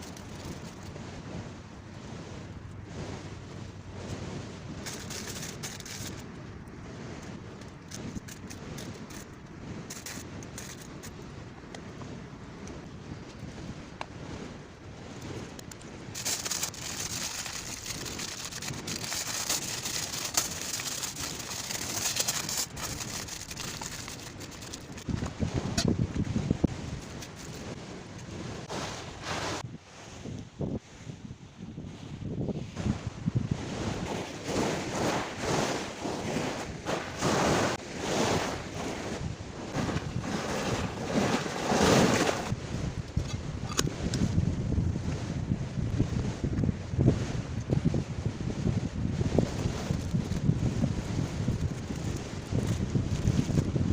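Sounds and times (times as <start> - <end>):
sea surf: 0.0 - 12.5, 13.2 - 31.2, 31.9 - 53.9
wind buffeting the microphone: 0.0 - 53.9.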